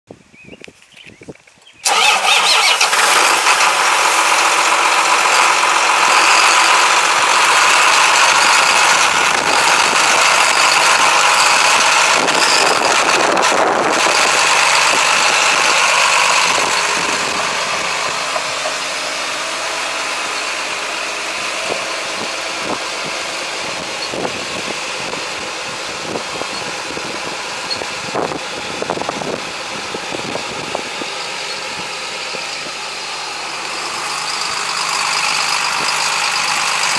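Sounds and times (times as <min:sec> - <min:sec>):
tractor diesel engine running: 0:01.8 - 0:36.9.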